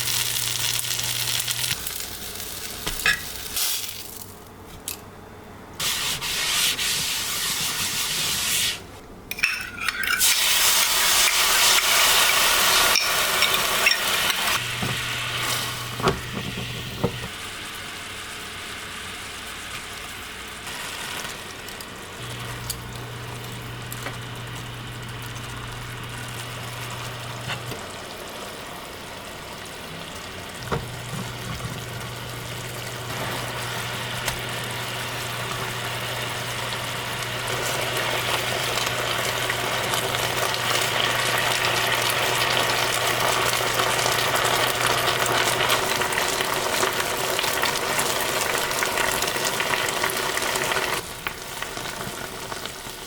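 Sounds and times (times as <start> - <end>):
food sizzling in a frying pan: 0.0 - 4.4, 10.0 - 53.0.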